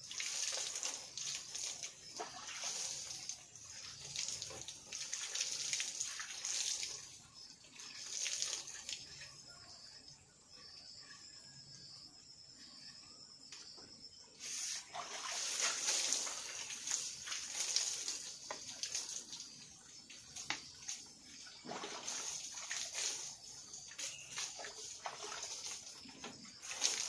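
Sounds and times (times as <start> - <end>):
water splashing and trickling: 0.0 - 10.3, 14.3 - 27.0.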